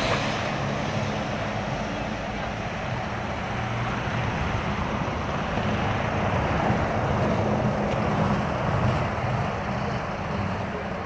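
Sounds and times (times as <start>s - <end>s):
road noise hiss: 0.0s - 11.0s
vehicle engine droning: 0.0s - 11.0s.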